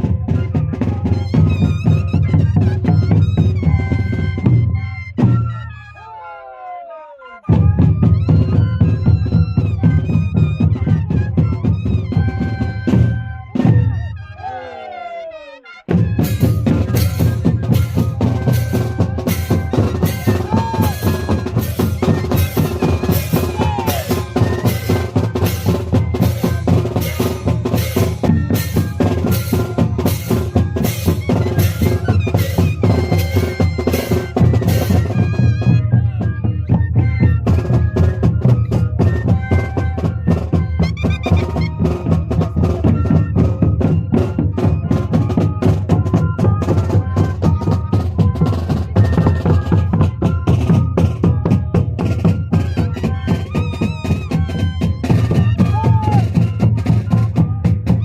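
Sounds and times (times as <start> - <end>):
drum beat: 0.0 - 5.6, 7.5 - 14.0, 15.8 - 58.0
flutes playing a tune: 0.0 - 58.0.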